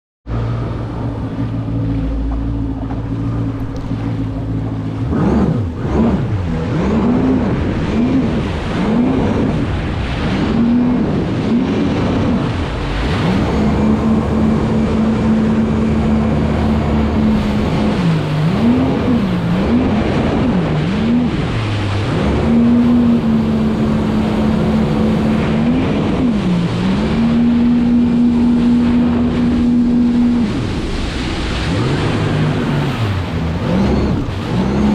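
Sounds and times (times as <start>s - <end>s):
jet ski engine running: 0.2s - 34.9s
rushing water: 0.3s - 34.9s.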